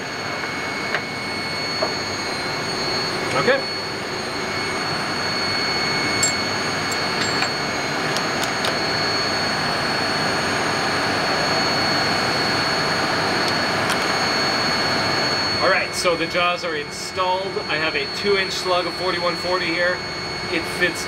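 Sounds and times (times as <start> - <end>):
machinery hiss with high whine: 0.0 - 21.0.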